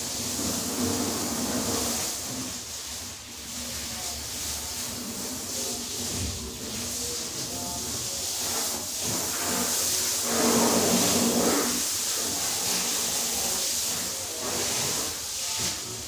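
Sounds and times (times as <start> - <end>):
car wash sprayer hissing: 0.0 - 16.0.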